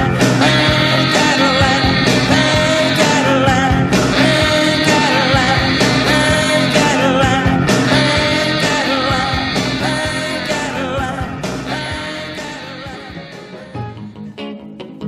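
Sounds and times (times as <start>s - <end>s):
rock song with singing and guitar: 0.0s - 15.0s.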